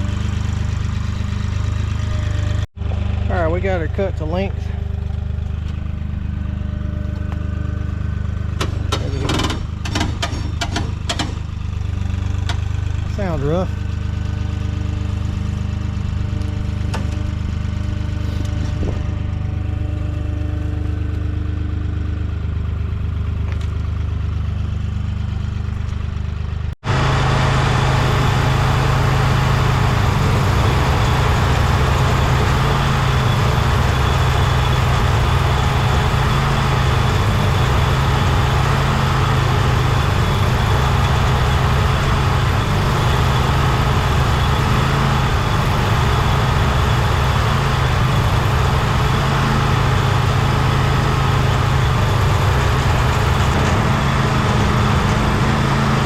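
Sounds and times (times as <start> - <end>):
engine idling roughly: 0.0 - 56.0
loud noisy engine: 0.0 - 56.0.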